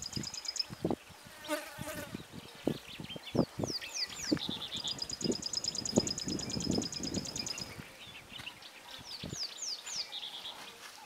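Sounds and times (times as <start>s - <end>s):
bird chirps: 0.0s - 0.9s, 1.5s - 11.0s.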